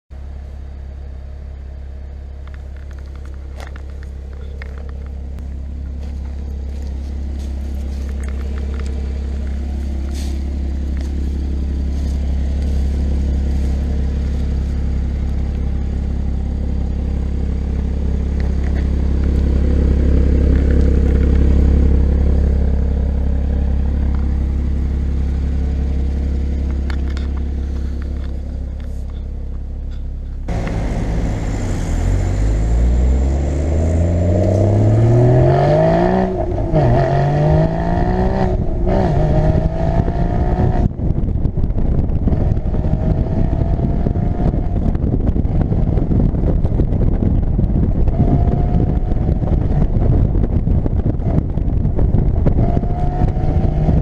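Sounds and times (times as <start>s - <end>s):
car engine idling: 0.1s - 54.0s.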